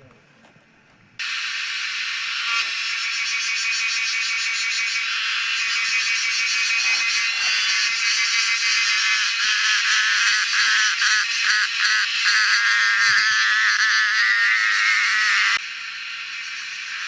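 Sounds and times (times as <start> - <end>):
cicadas buzzing: 1.2 - 17.0.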